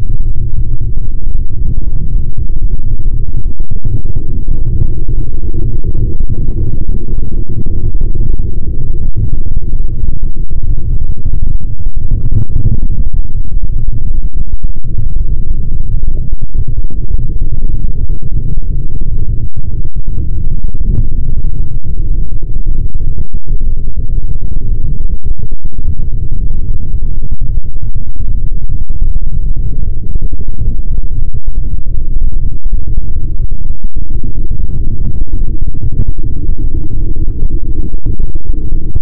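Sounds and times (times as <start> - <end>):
deep rumbling noise: 0.0 - 39.0.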